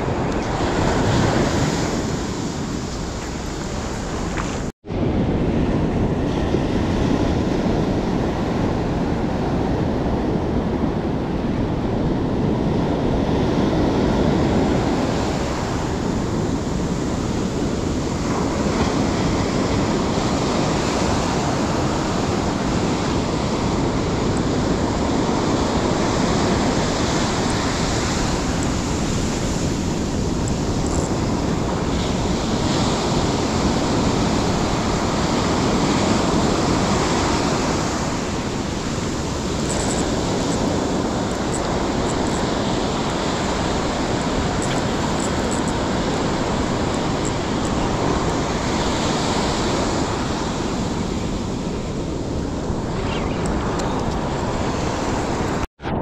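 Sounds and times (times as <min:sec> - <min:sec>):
ocean surf breaking: 0:00.0 - 0:11.3, 0:11.9 - 0:56.0
wind rumbling on microphone: 0:00.0 - 0:56.0.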